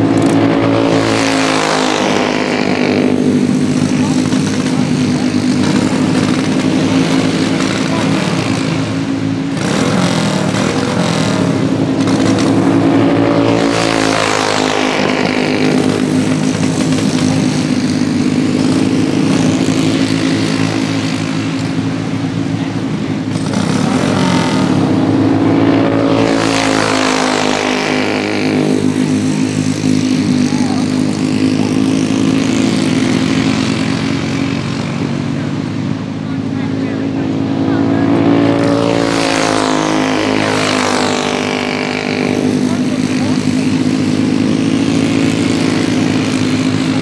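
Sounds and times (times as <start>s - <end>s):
racing kart engines buzzing: 0.0s - 47.0s.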